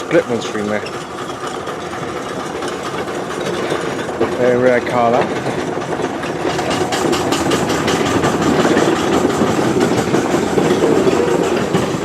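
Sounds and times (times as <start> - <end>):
engine running at fast beat: 0.0 - 12.0.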